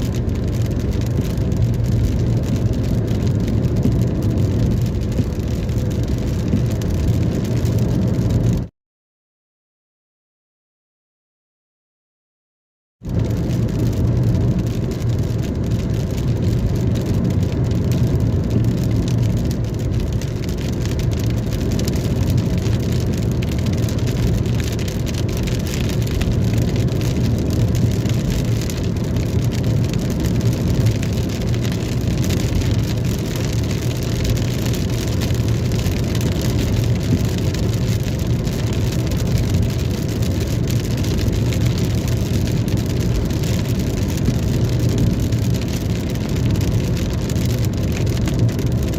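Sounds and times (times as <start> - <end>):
car low hum: 0.0 - 8.7, 13.1 - 48.9
heavy rain on a car: 0.0 - 8.7, 13.0 - 48.9.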